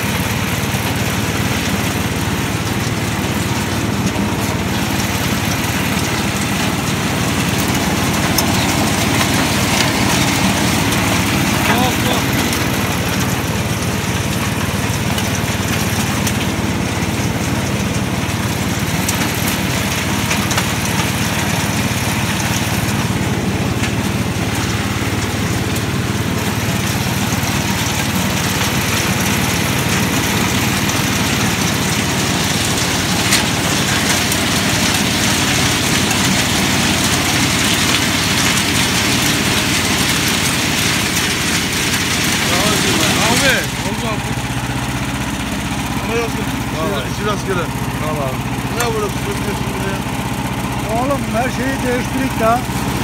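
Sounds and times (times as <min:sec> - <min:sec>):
harvester engine running: 0:00.0 - 0:53.0.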